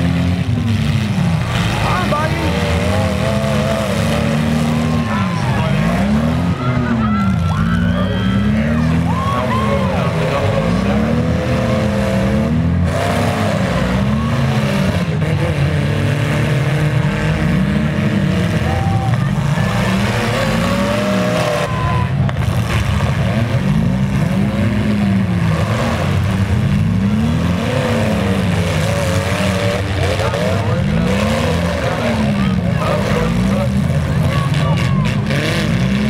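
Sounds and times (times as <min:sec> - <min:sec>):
car engines revving: 0:00.0 - 0:36.0
engine rumble: 0:00.0 - 0:36.0
vehicles ramming: 0:00.0 - 0:36.0.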